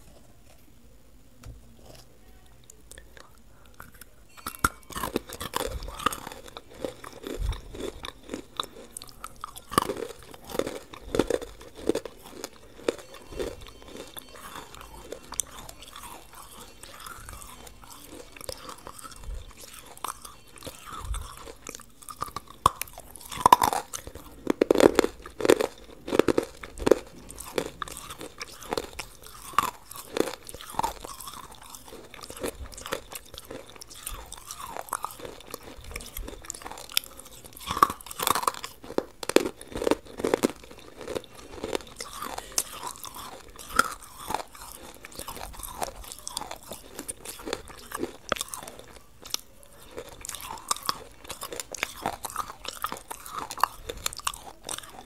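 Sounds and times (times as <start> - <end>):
person crunching brittle food: 1.8 - 55.0.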